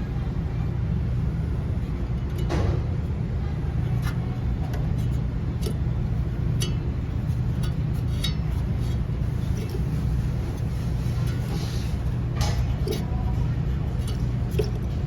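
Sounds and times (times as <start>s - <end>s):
refrigerator humming: 0.0s - 15.0s.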